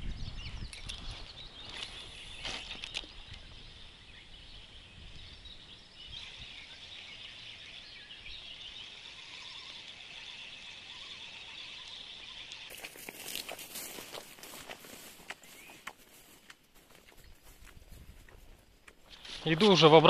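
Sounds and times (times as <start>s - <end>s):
faint high birdsong: 0.0s - 20.0s.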